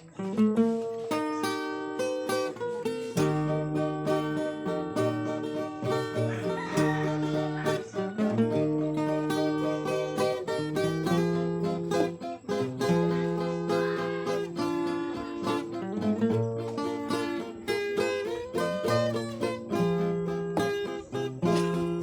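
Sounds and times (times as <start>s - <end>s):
plucked acoustic guitar music: 0.0s - 22.0s.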